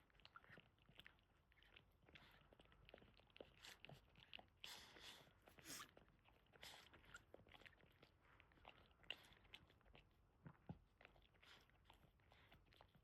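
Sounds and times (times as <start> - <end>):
dog licking puppies: 0.0 - 13.0.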